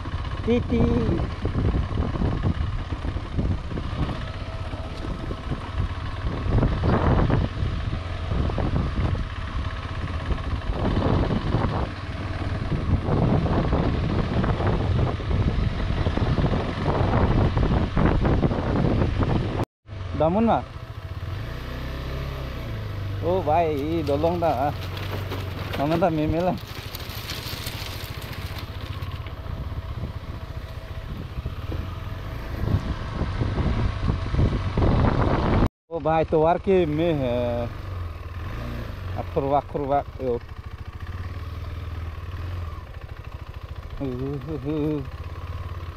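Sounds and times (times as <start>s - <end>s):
motorcycle engine running: 0.0s - 45.9s
tyres rumbling over rough ground: 0.0s - 45.9s.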